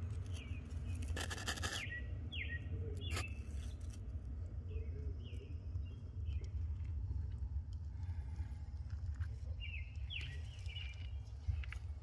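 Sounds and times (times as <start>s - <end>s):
birds chirping: 0.0s - 7.0s, 8.1s - 12.0s
steady low rumble: 0.0s - 12.0s.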